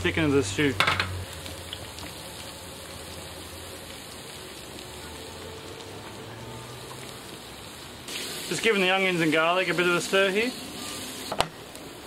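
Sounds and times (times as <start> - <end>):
onions and garlic sizzling: 0.0 - 12.0.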